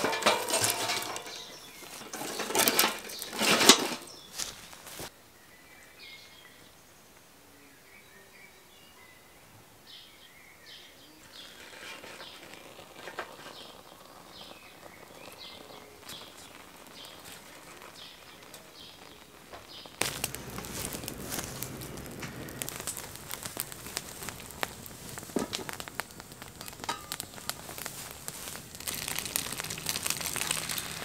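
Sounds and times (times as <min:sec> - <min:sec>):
twig fire crackling: 0:00.0 - 0:05.1, 0:11.2 - 0:31.0
small birds chirping: 0:00.9 - 0:03.4, 0:04.0 - 0:31.0.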